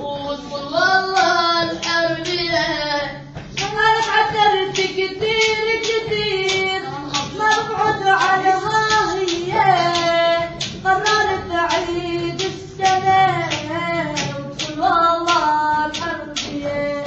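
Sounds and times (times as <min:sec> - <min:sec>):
child singing: 0:00.0 - 0:17.0
sharp rhythmic beats: 0:00.0 - 0:17.0.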